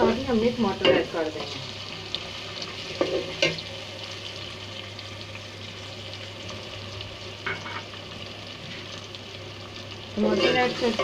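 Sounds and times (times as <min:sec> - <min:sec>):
paste sizzling in ghee: 0:00.0 - 0:11.0.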